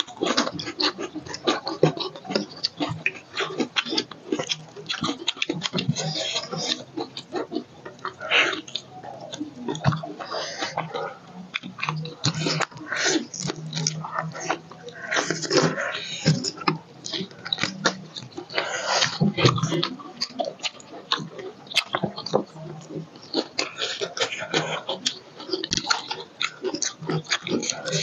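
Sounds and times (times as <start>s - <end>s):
people chewing food: 0.0s - 28.0s.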